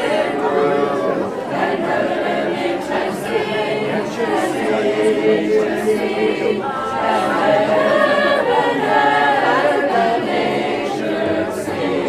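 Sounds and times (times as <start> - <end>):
choir singing sustained notes: 0.0 - 12.0.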